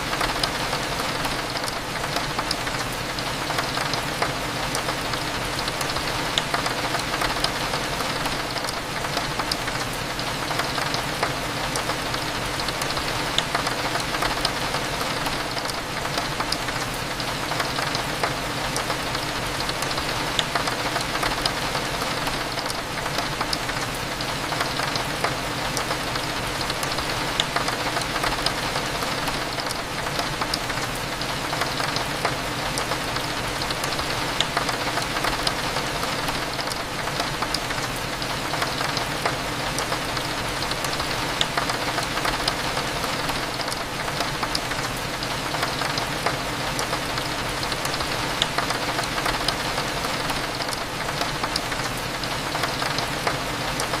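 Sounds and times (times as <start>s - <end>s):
rain against a window: 0.0s - 54.0s.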